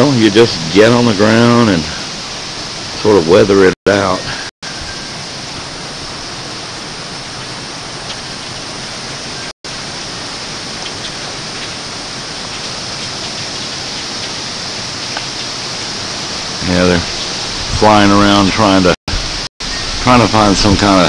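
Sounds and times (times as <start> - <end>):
hurricane wind and rain: 0.0 - 21.0.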